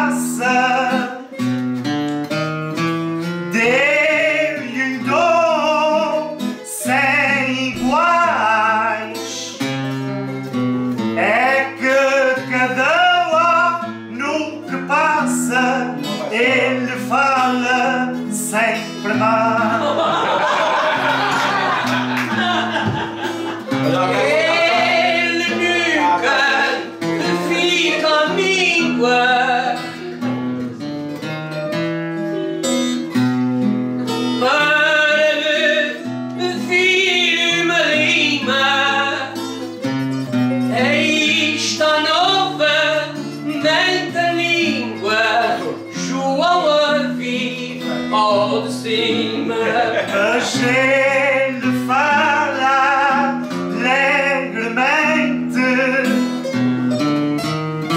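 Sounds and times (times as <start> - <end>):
person singing: 0.0 - 1.6, 3.2 - 56.7
plucked string instruments: 0.0 - 57.9.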